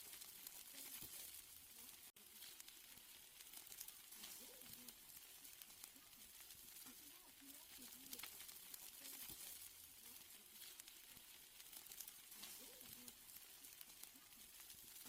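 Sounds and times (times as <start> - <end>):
steaks sizzling on a grill: 0.0 - 15.0.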